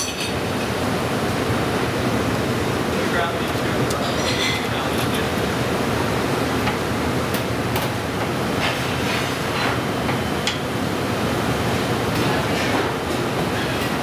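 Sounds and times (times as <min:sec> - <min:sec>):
kitchen steady roar: 0:00.0 - 0:14.0.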